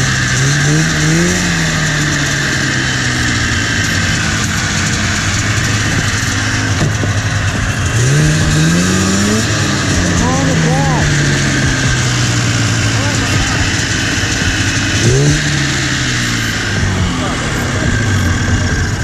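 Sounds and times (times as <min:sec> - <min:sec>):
snowmobile engine idling and revving: 0:00.0 - 0:19.0.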